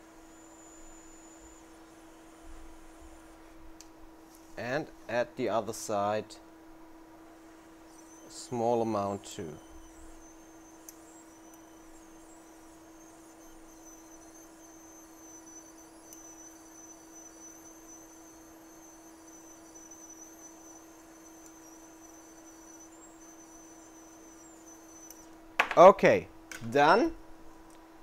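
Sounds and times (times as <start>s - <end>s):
high-pitched whine: 0.0s - 3.6s, 4.6s - 25.4s
faint electrical hum: 0.0s - 28.0s.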